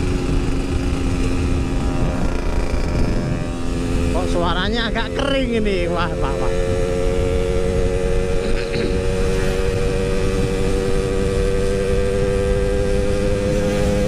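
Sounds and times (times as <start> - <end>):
two-stroke motorcycle running: 0.0 - 14.0.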